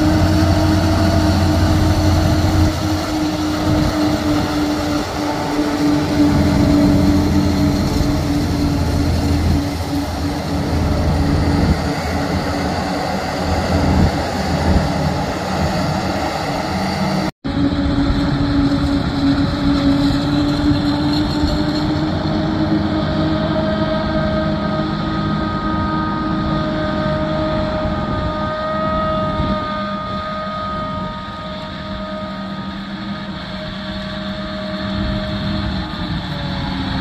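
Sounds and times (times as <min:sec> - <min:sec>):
tractor engine: 0:00.0 - 0:37.0.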